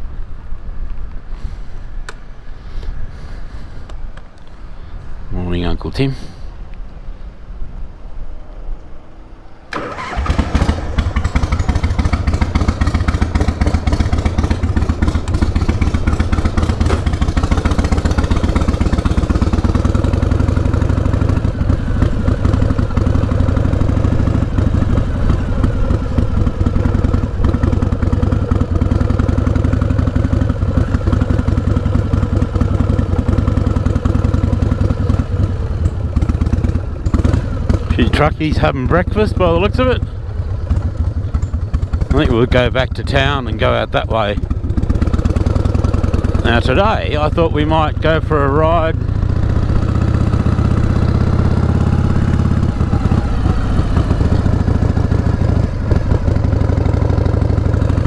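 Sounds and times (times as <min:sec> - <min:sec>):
motorcycle engine starting and running: 0:09.3 - 0:58.0.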